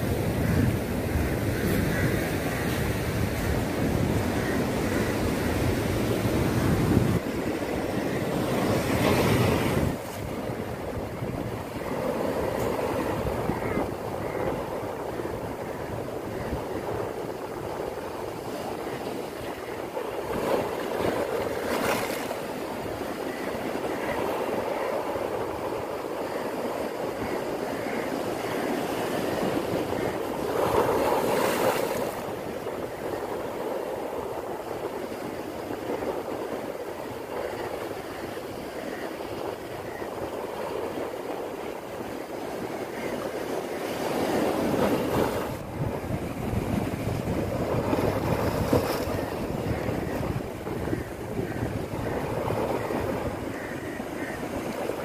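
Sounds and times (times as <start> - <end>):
surf washing over rocks: 0.0 - 55.0.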